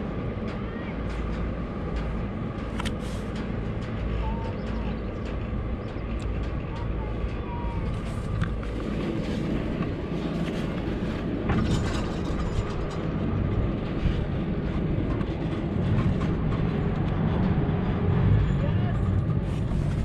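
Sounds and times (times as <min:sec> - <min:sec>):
ropeway machinery rumbling: 0:00.0 - 0:20.0.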